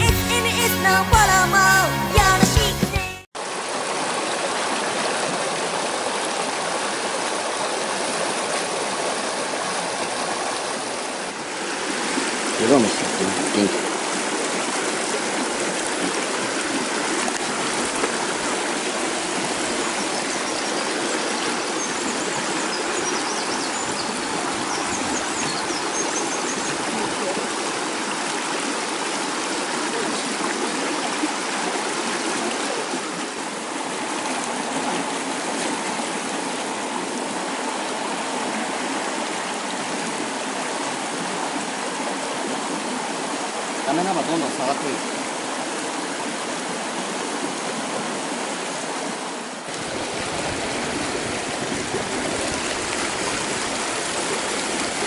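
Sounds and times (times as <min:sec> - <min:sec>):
stream rushing over rocks: 0:03.4 - 0:55.0.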